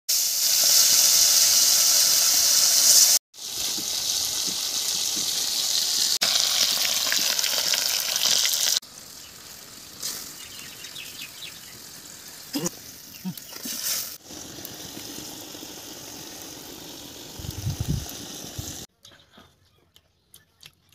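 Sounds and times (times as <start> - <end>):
crackles of frying: 0.1 - 18.9
fish frying in hot oil: 0.1 - 18.9.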